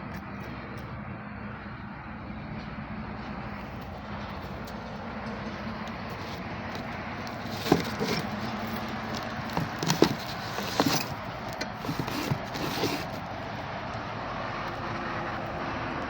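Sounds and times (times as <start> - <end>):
pump engine hum: 0.0 - 16.0.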